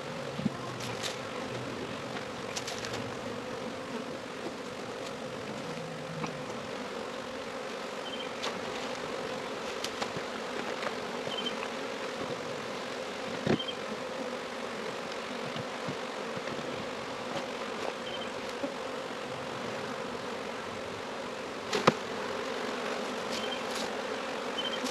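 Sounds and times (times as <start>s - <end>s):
honeybee swarm buzzing: 0.0s - 24.9s.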